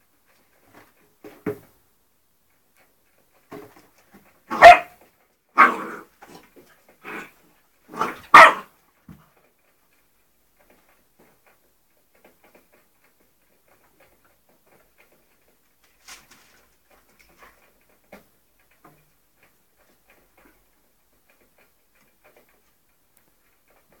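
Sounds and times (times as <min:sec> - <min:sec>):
animals scampering with light taps: 0:00.0 - 0:24.0.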